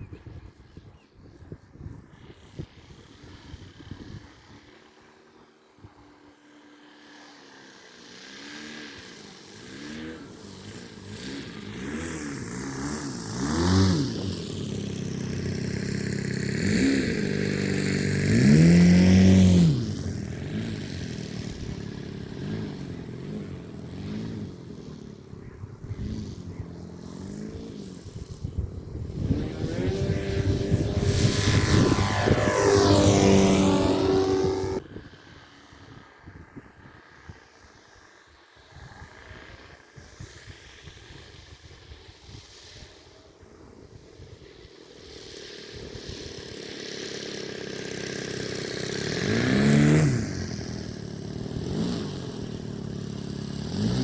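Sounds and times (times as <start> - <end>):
model plane motor buzzing: 2.0 - 54.0.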